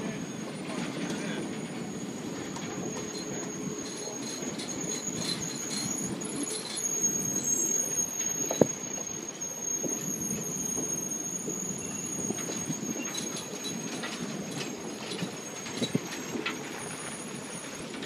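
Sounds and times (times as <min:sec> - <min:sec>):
train rumble: 0:00.0 - 0:18.0
train wheels squealing: 0:00.0 - 0:18.0.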